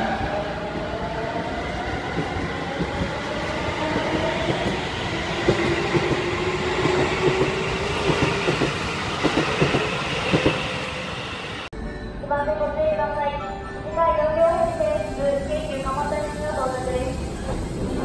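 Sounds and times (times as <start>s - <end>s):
electric train rumbling past: 0.0s - 11.7s, 14.4s - 18.0s.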